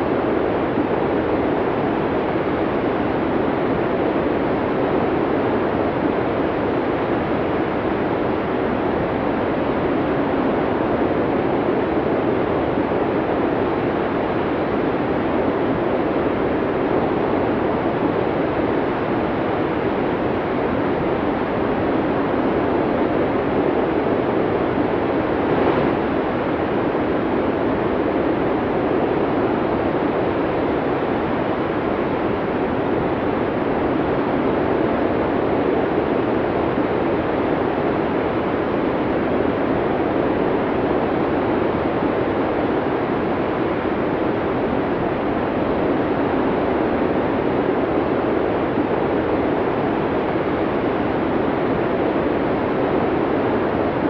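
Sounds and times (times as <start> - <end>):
snowstorm wind blowing hard: 0.0 - 54.0.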